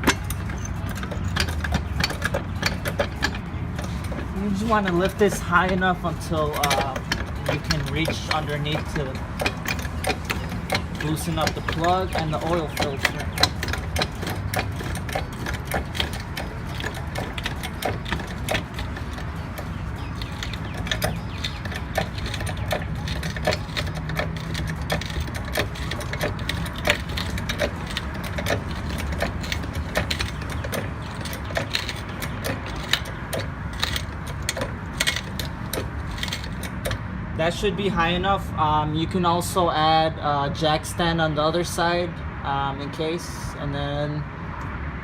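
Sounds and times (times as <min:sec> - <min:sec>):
car jack ratcheting clicks: 0:00.0 - 0:37.1.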